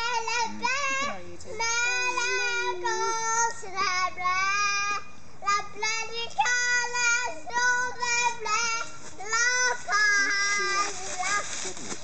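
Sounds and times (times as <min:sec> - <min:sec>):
girl singing unaccompanied: 0:00.0 - 0:11.8.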